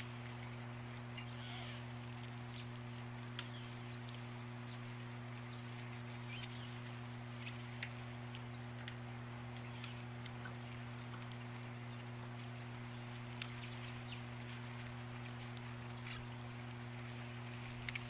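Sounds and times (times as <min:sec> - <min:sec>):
low electrical hum: 0:00.0 - 0:18.0
faint songbird chirps: 0:01.1 - 0:16.5.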